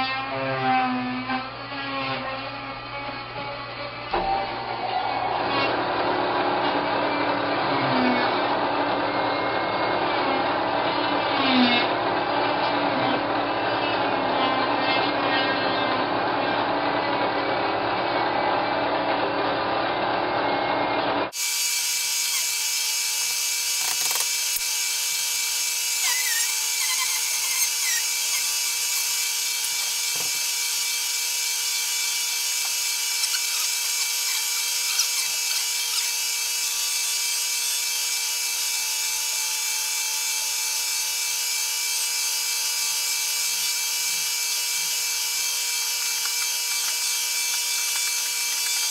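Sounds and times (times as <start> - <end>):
milling machine cutting wood: 0.0 - 48.9.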